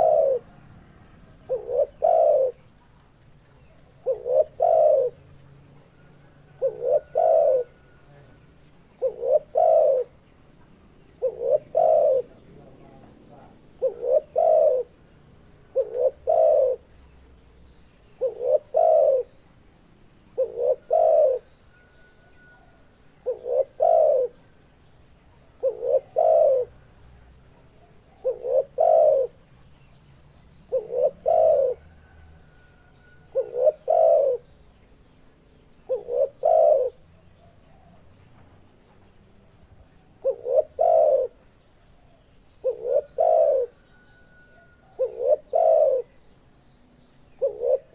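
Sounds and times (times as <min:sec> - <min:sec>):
dove cooing: 0:00.0 - 0:08.3, 0:08.9 - 0:16.9, 0:18.2 - 0:19.4, 0:20.3 - 0:24.6, 0:25.3 - 0:29.5, 0:30.7 - 0:34.5, 0:35.8 - 0:38.2, 0:40.0 - 0:46.2, 0:47.4 - 0:47.9.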